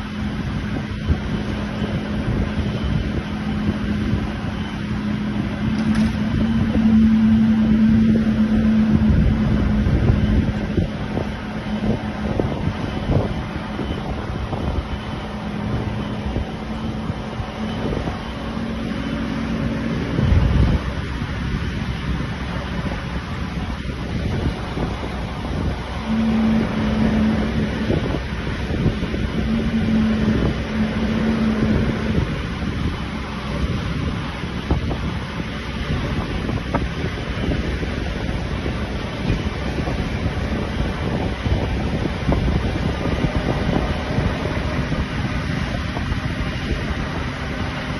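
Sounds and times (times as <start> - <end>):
steady mechanical hum: 0.0 - 47.9
wind buffeting microphone: 0.0 - 47.9.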